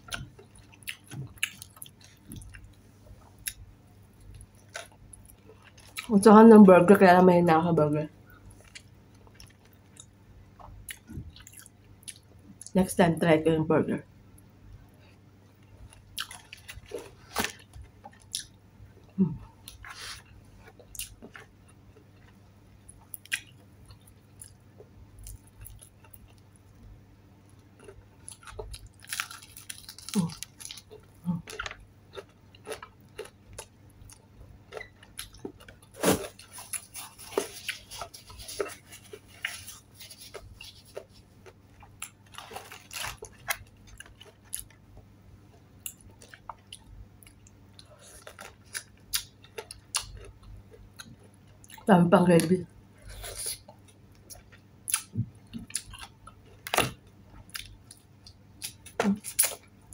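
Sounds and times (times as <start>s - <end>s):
chewing crispy fried chicken: 0.0s - 3.6s, 4.2s - 6.1s, 15.6s - 26.8s, 27.4s - 51.9s, 53.1s - 59.9s.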